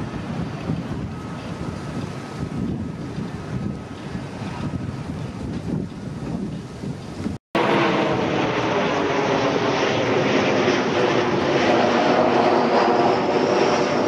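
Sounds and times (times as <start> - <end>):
aircraft engine drone: 0.0 - 5.4, 7.6 - 14.0
wind on microphone: 0.0 - 14.0.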